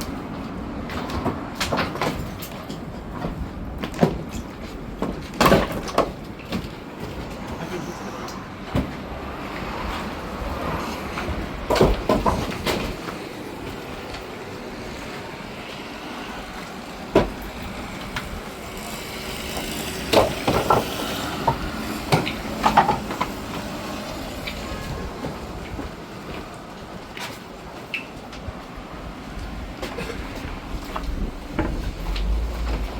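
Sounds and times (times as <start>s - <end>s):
knocks and rattles over bumps: 0.0s - 7.7s, 8.6s - 32.9s
truck engine and road rumble: 0.0s - 32.9s.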